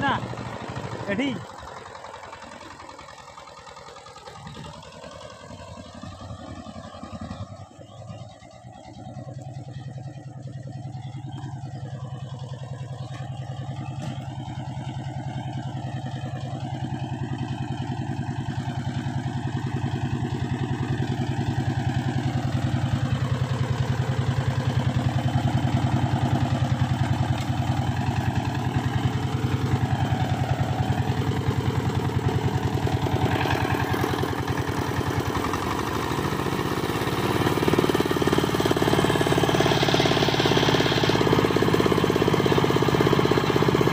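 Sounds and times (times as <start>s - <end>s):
diesel tiller engine running: 0.0s - 43.9s.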